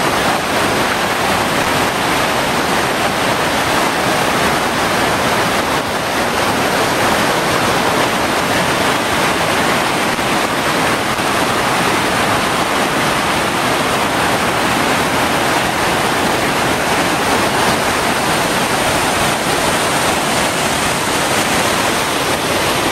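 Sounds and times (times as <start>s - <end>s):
water rushing over rocks: 0.0s - 22.9s.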